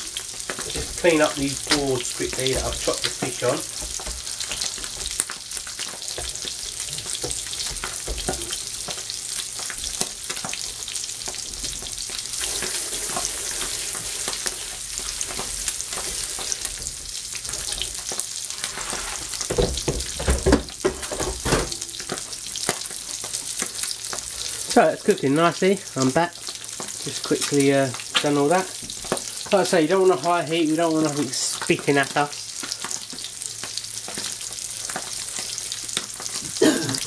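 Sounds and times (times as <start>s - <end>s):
fish sizzling in frying pan: 0.0s - 37.0s.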